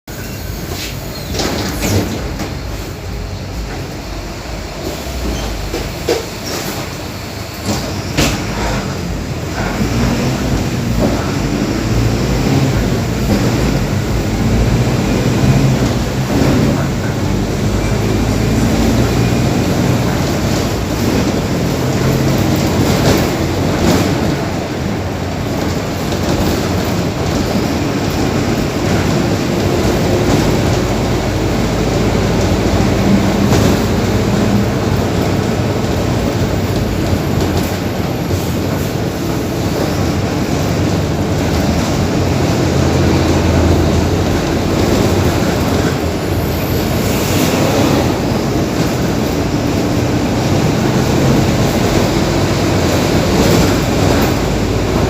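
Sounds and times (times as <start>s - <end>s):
road noise: 0.0s - 55.0s
diesel bus engine rumble: 0.1s - 55.0s.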